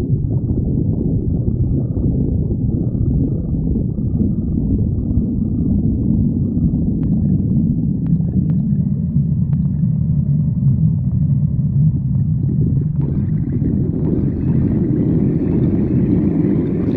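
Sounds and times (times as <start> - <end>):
stomach growling: 0.0 - 16.9.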